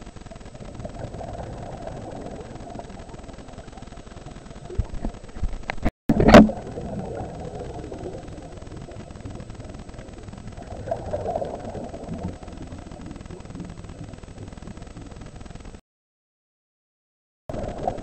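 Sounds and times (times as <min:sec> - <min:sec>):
muffled underwater rush: 0:00.0 - 0:15.8, 0:17.5 - 0:18.0.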